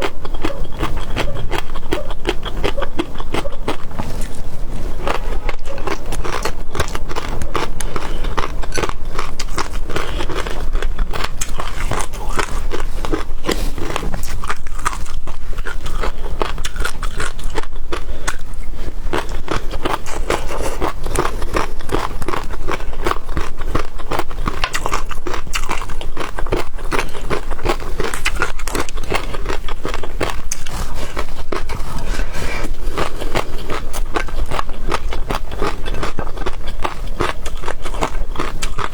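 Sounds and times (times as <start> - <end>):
biting and chewing seafood: 0.0 - 38.9.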